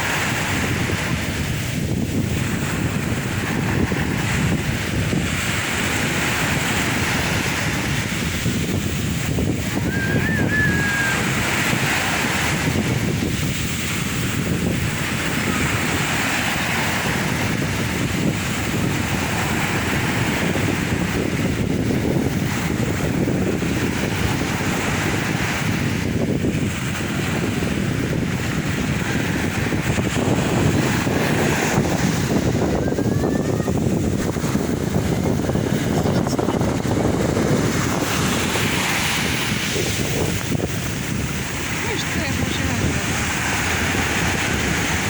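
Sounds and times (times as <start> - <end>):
sea waves washing onto shore: 0.0 - 45.0
wind buffeting microphone: 0.0 - 45.0.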